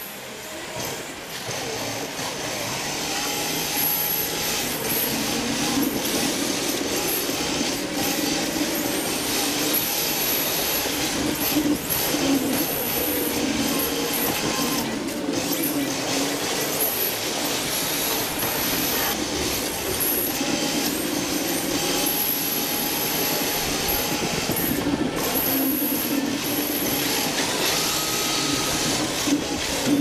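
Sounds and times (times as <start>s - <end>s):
rc car motor whine: 0.0s - 30.0s.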